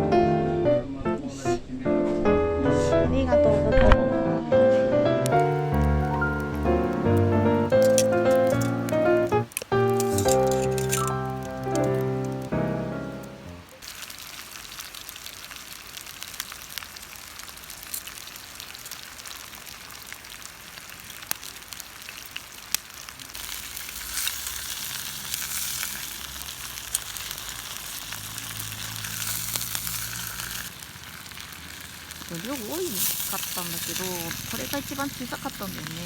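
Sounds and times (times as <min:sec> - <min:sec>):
steak sizzling with pops: 0:05.2 - 0:36.0.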